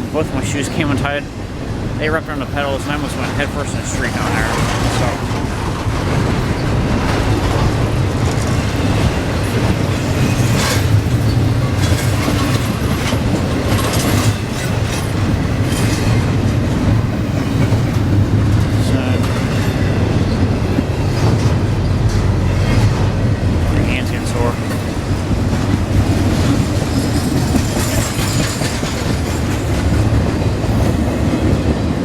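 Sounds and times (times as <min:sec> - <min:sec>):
freight train rumbling past: 0:00.0 - 0:32.0
wheels knocking on rail: 0:03.2 - 0:32.0.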